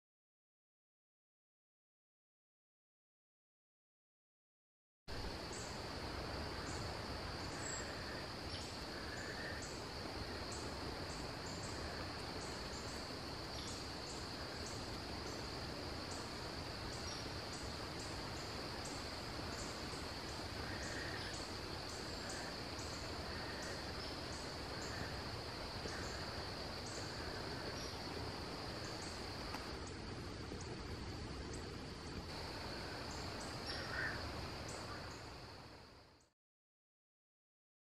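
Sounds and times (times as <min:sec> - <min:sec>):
insects droning: 0:05.1 - 0:36.3
insect chirps: 0:05.1 - 0:36.4.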